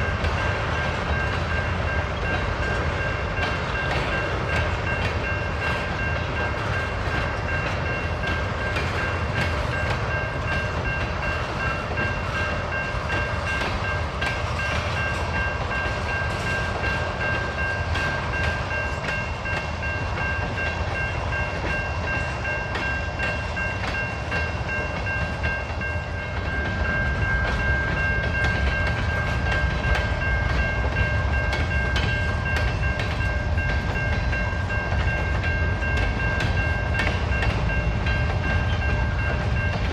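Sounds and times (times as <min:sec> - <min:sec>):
railroad cars rumbling and clicking: 0:00.0 - 0:39.9.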